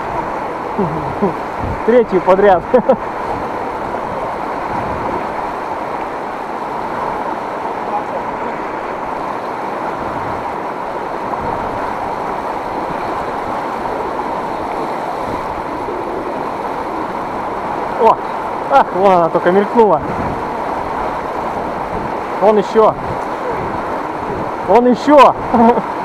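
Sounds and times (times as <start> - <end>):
fast-flowing river water rushing: 0.0 - 26.0.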